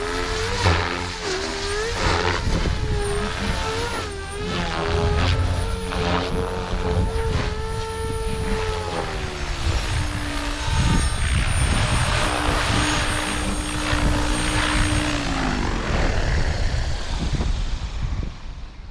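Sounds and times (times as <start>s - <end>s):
rc helicopter rotor and motor whine: 0.0s - 18.9s.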